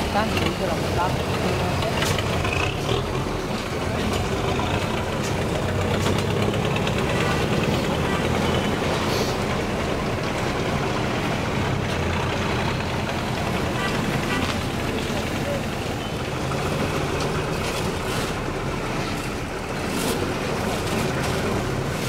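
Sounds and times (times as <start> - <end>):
truck and motorcycle engines rumbling: 0.0 - 22.0.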